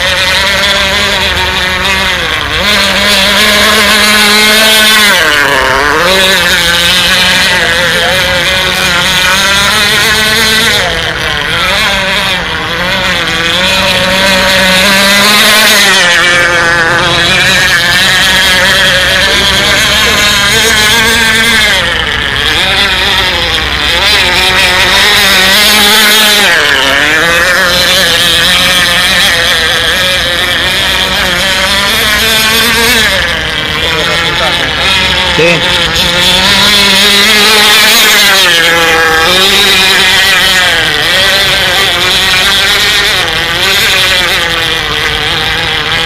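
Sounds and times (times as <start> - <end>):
model boat engine running: 0.0 - 46.0.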